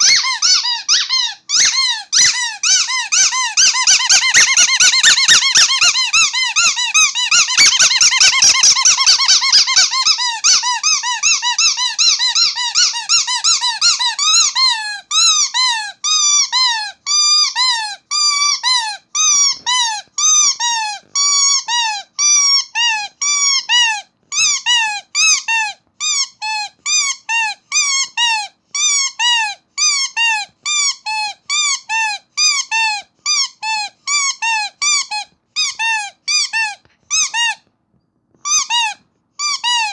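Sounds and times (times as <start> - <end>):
squeaky toy squeaking: 0.0 - 37.7, 38.4 - 39.9.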